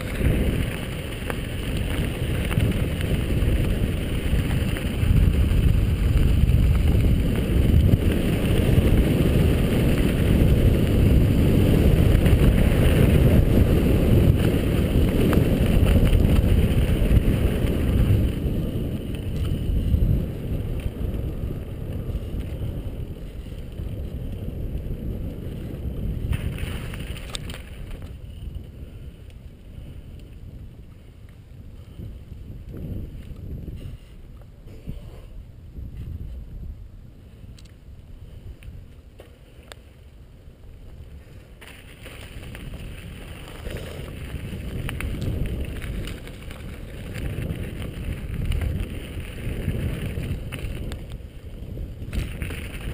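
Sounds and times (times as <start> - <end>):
bike tyres rolling over gravel: 0.0 - 52.9
wind buffeting microphone: 0.0 - 52.9.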